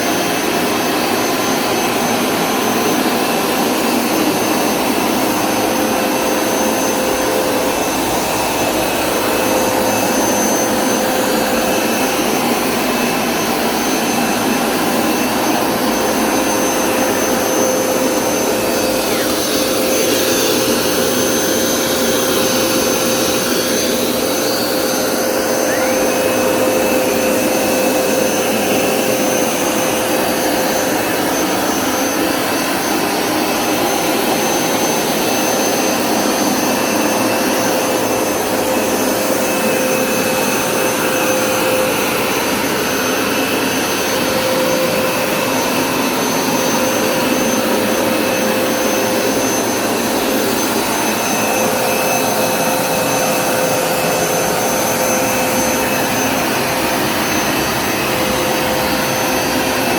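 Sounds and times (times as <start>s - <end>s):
carpet cleaner motor whining: 0.0s - 59.9s.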